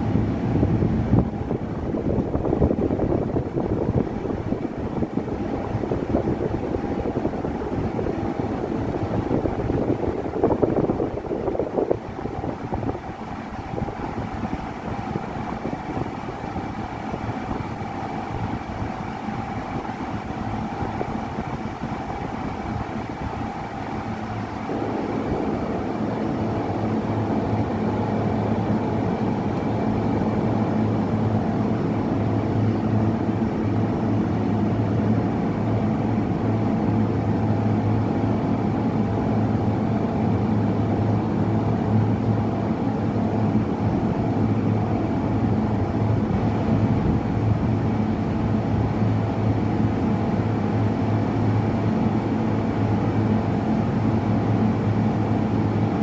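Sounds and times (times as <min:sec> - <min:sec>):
engine droning: 0:00.0 - 0:56.0.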